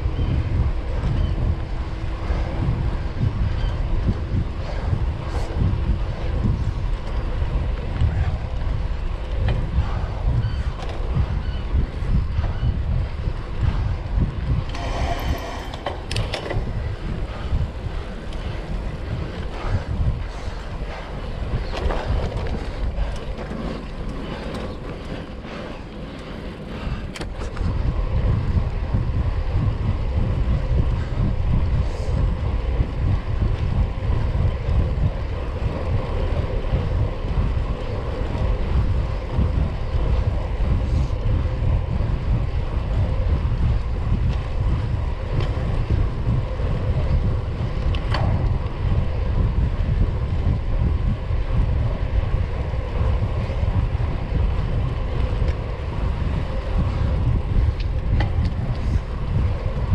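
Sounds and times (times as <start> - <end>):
bike tyre noise on tarmac: 0.0 - 59.9
wind rumbling on microphone: 0.0 - 59.9.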